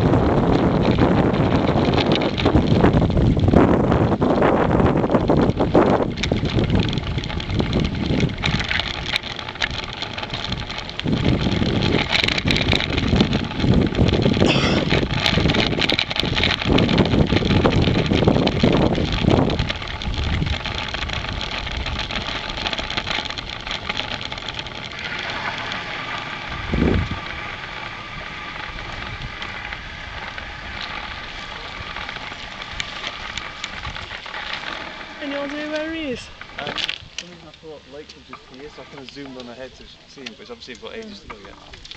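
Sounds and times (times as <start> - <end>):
bike tyre and rattle noise: 0.0 - 41.9
wind buffeting microphone: 0.0 - 41.9.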